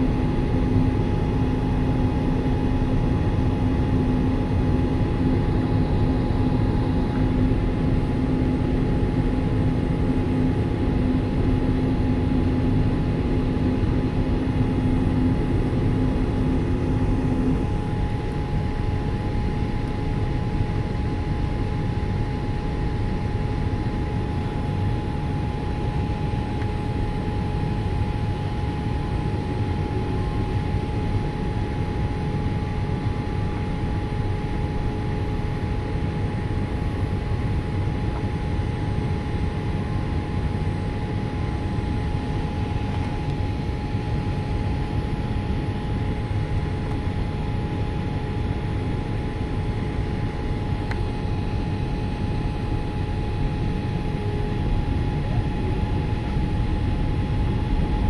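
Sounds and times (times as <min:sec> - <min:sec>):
engine and airflow roar: 0:00.0 - 0:58.0
thin steady whine: 0:00.0 - 0:58.0.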